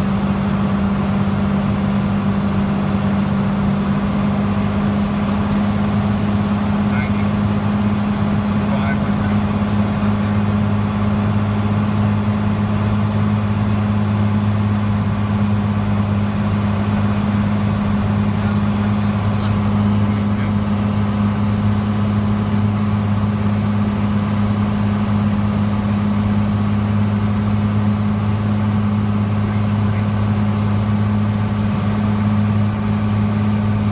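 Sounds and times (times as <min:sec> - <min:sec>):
airplane engine and propeller drone: 0:00.0 - 0:33.9.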